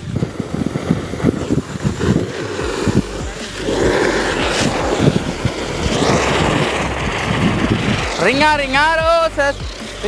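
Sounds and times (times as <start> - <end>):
firework spinner hissing: 0.0 - 10.0
fuse sputtering and crackling: 0.0 - 10.0.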